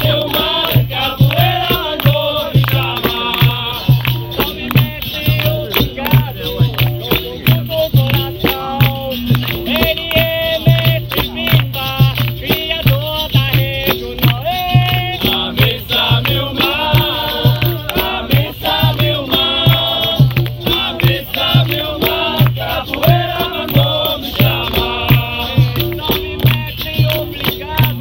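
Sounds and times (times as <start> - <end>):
group singing: 0.0 - 28.0
hand percussion steady low beat: 0.0 - 28.0.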